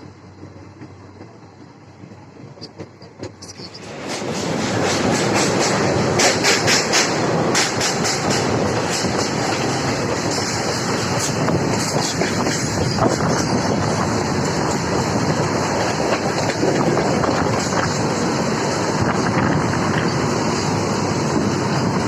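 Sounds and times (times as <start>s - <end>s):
rail joint clicks: 0.0s - 22.0s
train wheels rumbling on rails: 0.0s - 22.0s.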